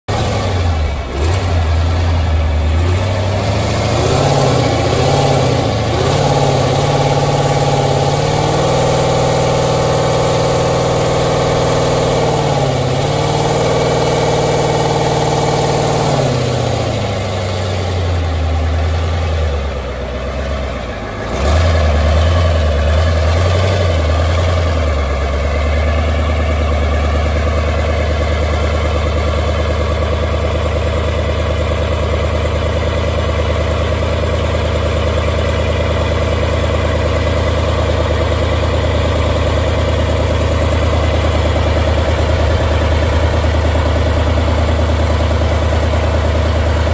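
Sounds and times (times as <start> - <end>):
diesel engine revving and idling: 0.0 - 46.9.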